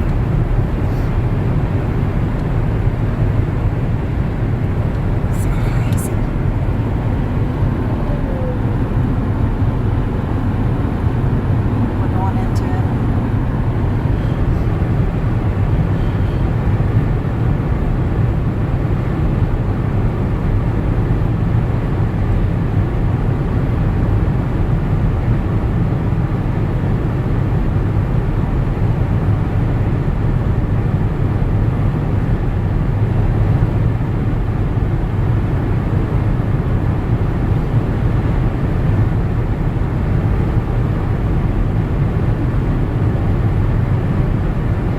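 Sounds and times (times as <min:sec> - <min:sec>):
car driving road noise: 0:00.0 - 0:44.9.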